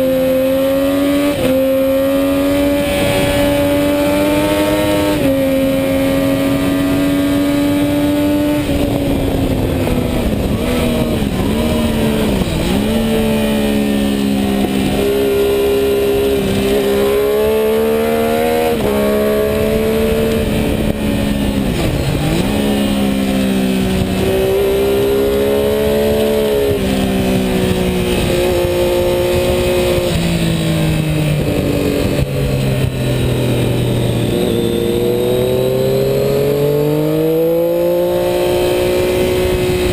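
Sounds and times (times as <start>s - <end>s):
sport motorcycle engine running hard: 0.0s - 39.9s
wind rushing: 2.3s - 39.9s.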